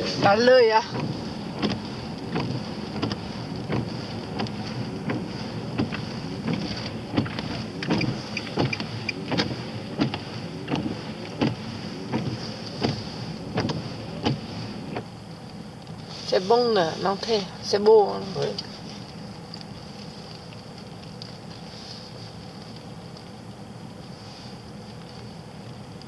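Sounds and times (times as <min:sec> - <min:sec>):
car road and engine noise: 0:00.0 - 0:26.0
high steady hum: 0:00.0 - 0:26.0
windscreen wipers sweeping: 0:00.0 - 0:26.0.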